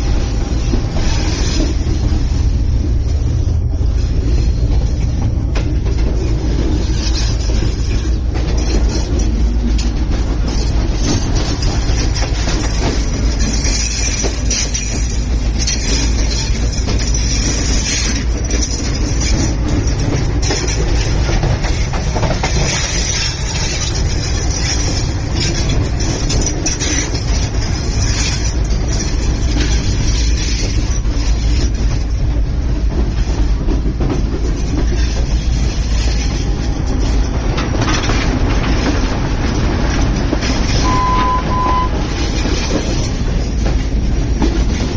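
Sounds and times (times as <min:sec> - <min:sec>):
clacks over rail joints: 0:00.0 - 0:44.9
train wheels rumbling on rails: 0:00.0 - 0:44.9.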